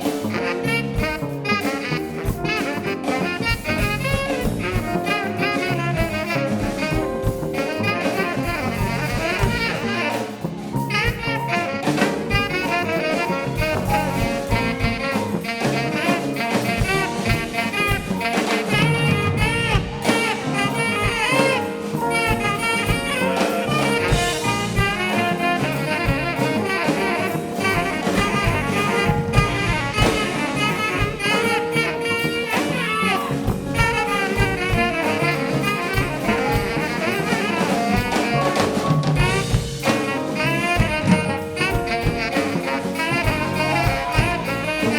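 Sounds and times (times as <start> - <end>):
live jazz band playing: 0.0 - 44.9.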